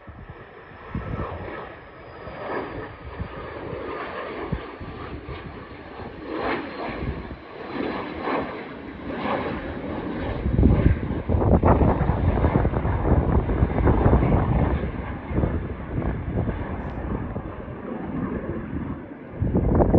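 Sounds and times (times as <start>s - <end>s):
airplane taking off: 0.0s - 19.9s.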